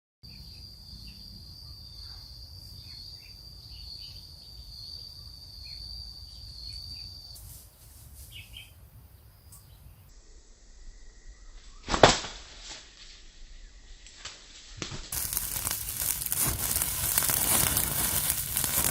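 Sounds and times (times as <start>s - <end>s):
insects trilling: 0.3s - 12.0s, 15.1s - 18.9s.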